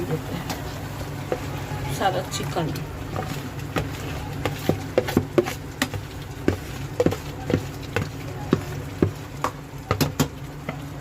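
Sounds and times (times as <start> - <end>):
light sizzle: 0.0 - 11.0.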